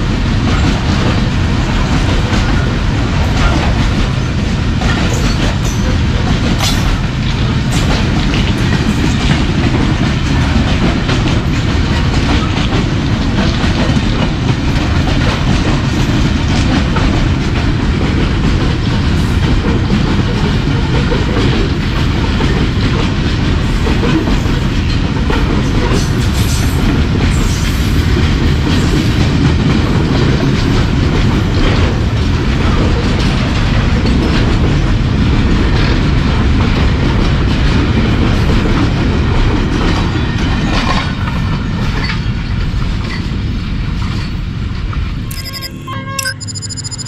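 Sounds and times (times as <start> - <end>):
train wheels rumbling on rails: 0.0 - 45.4.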